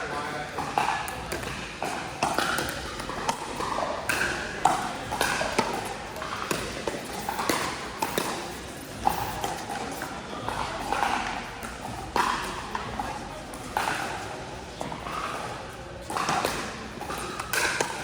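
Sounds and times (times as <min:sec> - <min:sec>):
faint chatter: 0:00.0 - 0:18.0
paddles hitting plastic ball: 0:00.0 - 0:18.0.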